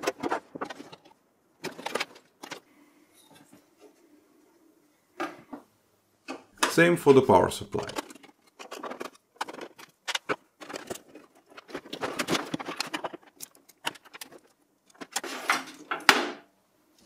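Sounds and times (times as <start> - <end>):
rustling of wires: 0.0 - 4.6, 6.6 - 16.2.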